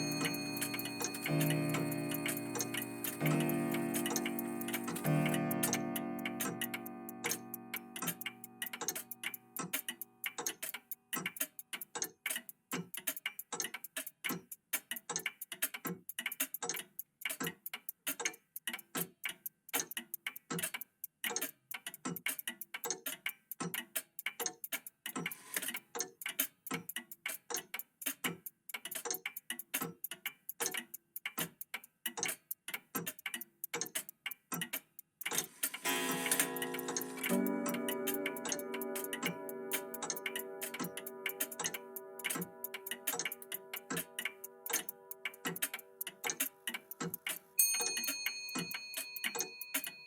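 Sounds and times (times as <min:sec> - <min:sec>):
mechanical clocks ticking: 0:00.0 - 0:50.0.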